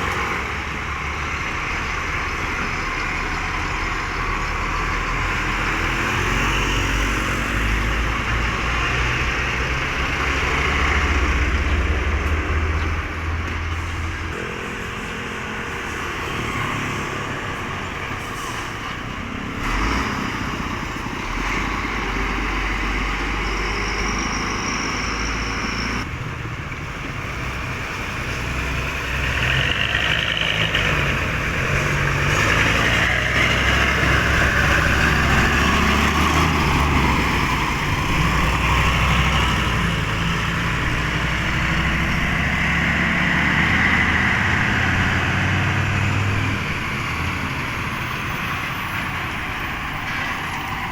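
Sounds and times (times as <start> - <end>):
trucks passing on road: 0.0 - 50.9
tyre and traffic noise: 0.0 - 50.9.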